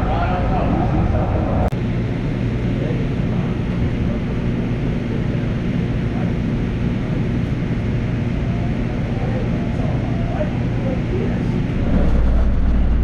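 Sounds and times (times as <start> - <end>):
train car rumbling: 0.0 - 13.0.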